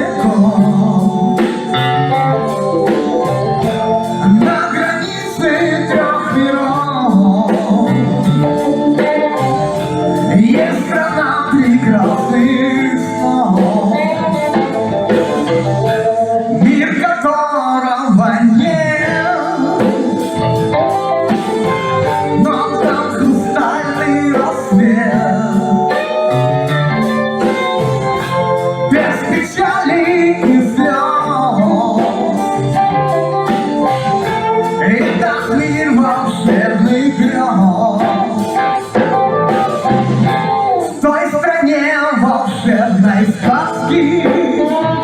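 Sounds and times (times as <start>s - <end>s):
steady drum beat: 0.0s - 17.0s, 19.0s - 41.1s
guitar and bass: 0.0s - 45.0s
person singing: 0.0s - 45.0s.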